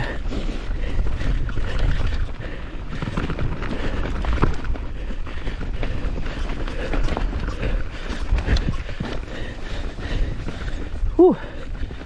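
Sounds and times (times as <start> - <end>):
bike chain and tyres rattling: 0.0 - 12.0
wind buffeting microphone: 0.0 - 12.0.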